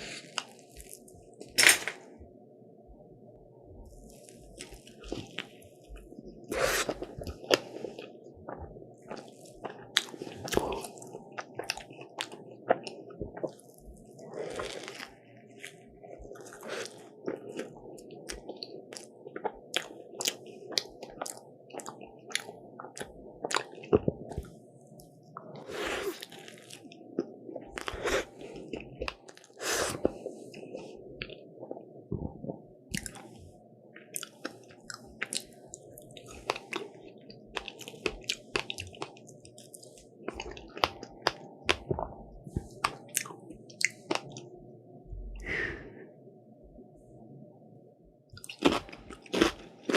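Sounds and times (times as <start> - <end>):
chewing crunchy waffles: 4.0 - 31.9, 32.9 - 33.4, 34.0 - 44.5, 48.4 - 49.9.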